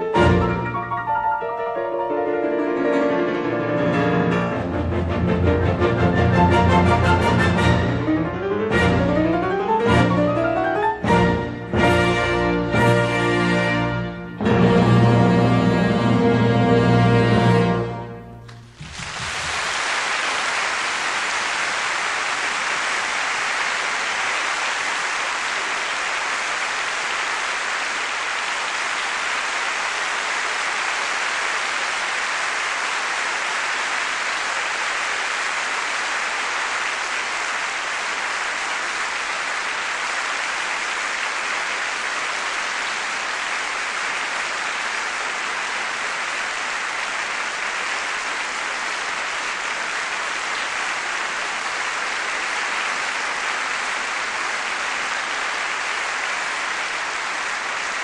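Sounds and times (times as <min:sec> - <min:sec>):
audience applauding: 0:00.0 - 0:58.0.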